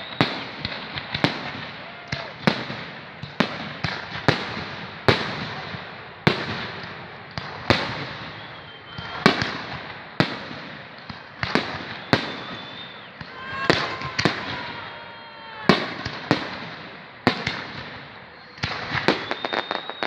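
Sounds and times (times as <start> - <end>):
fireworks bangs with echo: 0.0 - 20.0.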